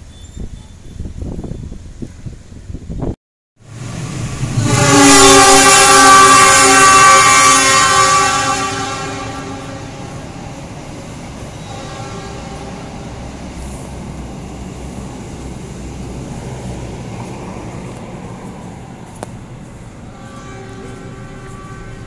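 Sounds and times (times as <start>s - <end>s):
train wheels rolling on rails: 3.7s - 22.0s.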